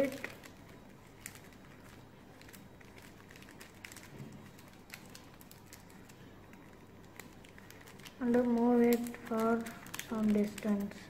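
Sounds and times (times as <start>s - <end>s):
paper crinkling: 0.0s - 11.0s.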